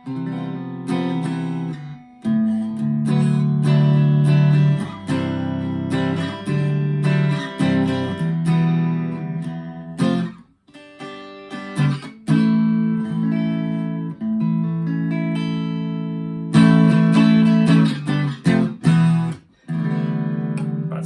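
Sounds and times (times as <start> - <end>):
clean electric guitar chords strummed: 0.0 - 21.0.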